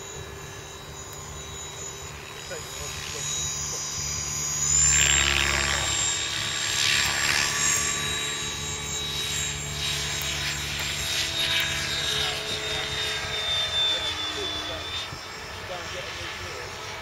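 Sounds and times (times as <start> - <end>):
helicopter motor whine: 0.0 - 17.0
rotor blades rushing: 0.0 - 17.0.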